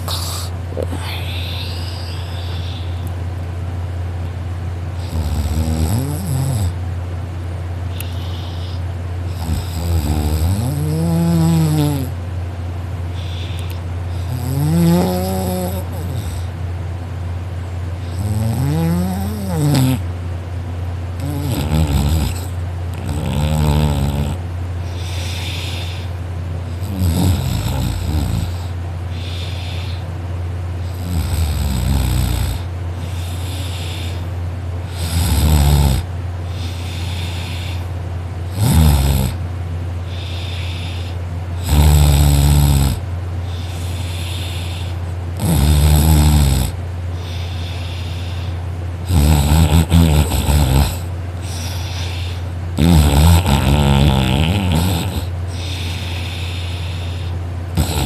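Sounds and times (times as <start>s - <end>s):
person snoring loudly: 0.0s - 3.1s, 5.0s - 6.8s, 7.9s - 12.2s, 13.2s - 16.5s, 18.0s - 20.1s, 21.2s - 30.1s, 30.8s - 34.3s, 34.9s - 37.9s, 38.5s - 39.4s, 40.1s - 58.0s
steady low hum: 0.0s - 58.0s.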